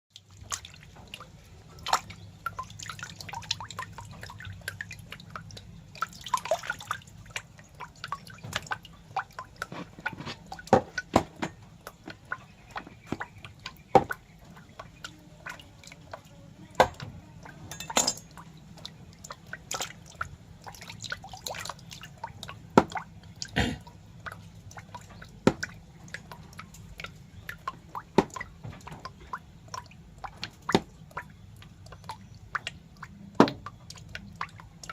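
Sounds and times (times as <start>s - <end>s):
wet clicks and drip-like ticks: 0.1s - 34.9s.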